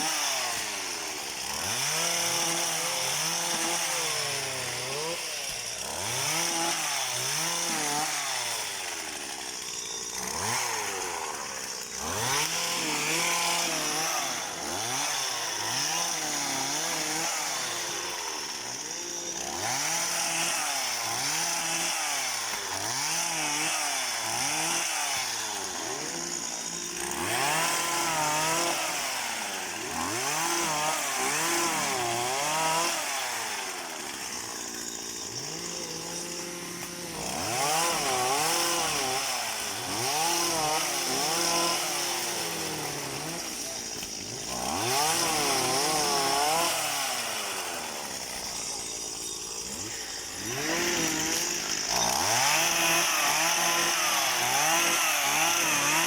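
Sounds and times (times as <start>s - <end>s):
small petrol engine revving: 1.4s - 8.5s, 10.2s - 34.2s, 35.3s - 48.8s, 49.6s - 56.0s.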